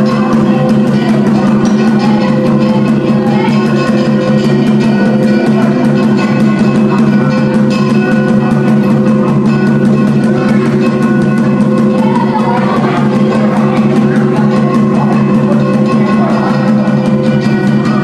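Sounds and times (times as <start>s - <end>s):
ritual drum music: 0.0s - 18.0s.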